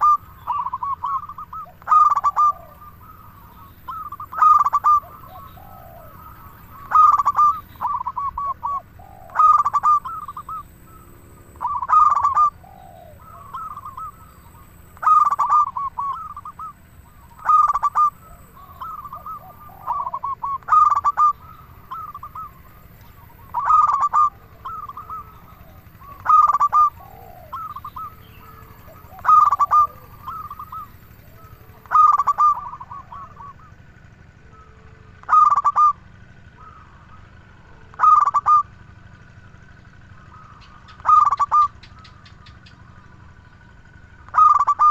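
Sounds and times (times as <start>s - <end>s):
dove cooing and trilling: 0.0s - 44.9s.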